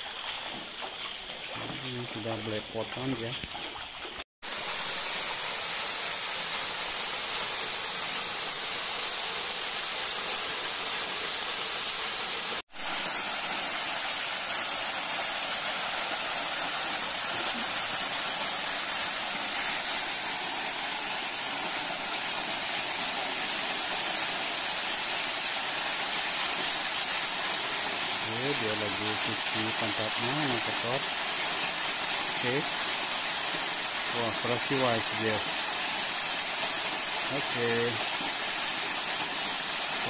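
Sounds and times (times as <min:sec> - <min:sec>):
waterfall rushing into rocky pool: 0:04.4 - 0:40.0.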